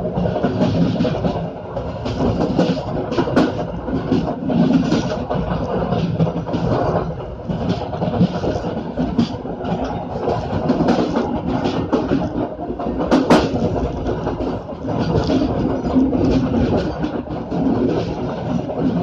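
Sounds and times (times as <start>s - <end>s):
train wheels clattering on track: 0.0s - 19.0s.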